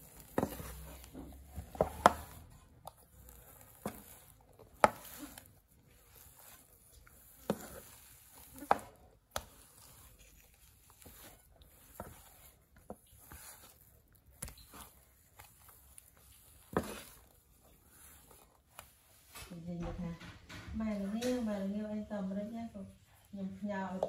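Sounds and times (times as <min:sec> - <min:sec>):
spatula squishing dough in pan: 0:00.0 - 0:24.0.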